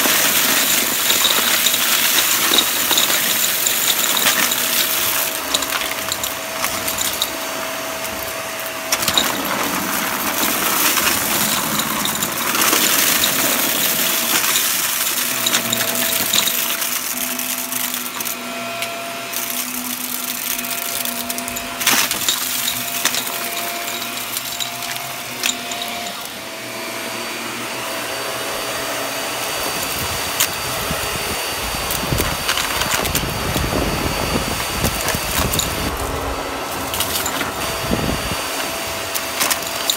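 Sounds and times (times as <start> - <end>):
debris rattling into canister: 0.0 - 26.4, 31.9 - 39.9
vacuum cleaner motor whining: 0.0 - 39.9.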